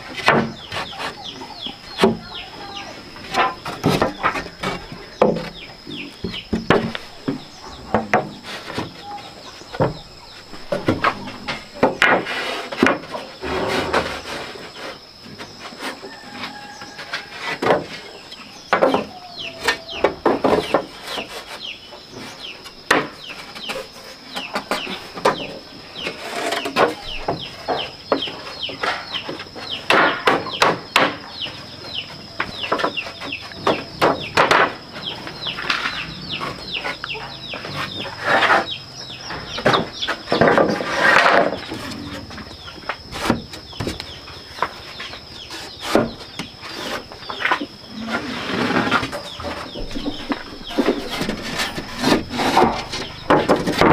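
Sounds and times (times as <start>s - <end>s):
chickens peeping and clucking: 0.0s - 53.9s.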